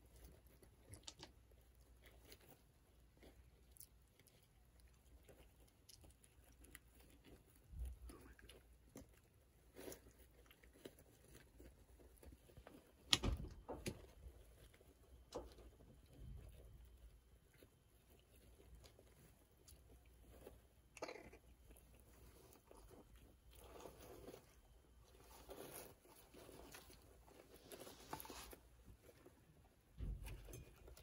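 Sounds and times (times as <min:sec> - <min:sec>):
rustling and scratching in bedding: 0:01.5 - 0:31.0.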